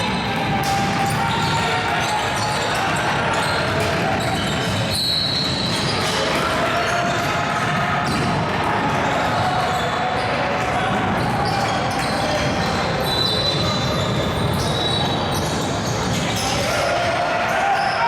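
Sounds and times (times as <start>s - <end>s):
court noise: 0.0s - 18.0s
voices in a large hall: 0.0s - 18.0s.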